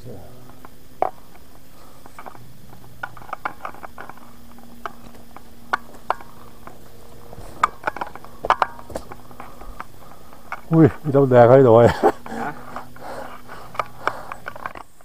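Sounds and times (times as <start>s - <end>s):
footsteps on forest trail: 0.6s - 15.0s.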